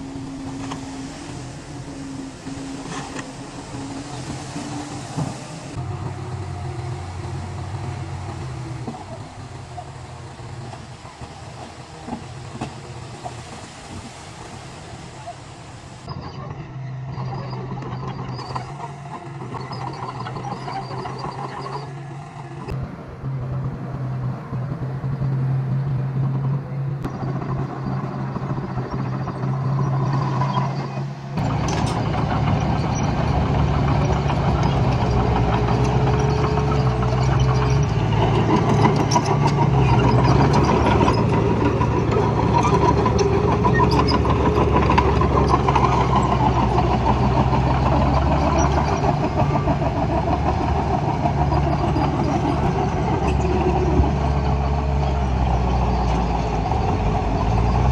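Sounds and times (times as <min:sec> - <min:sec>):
work vehicle engine running: 0:00.0 - 0:57.9.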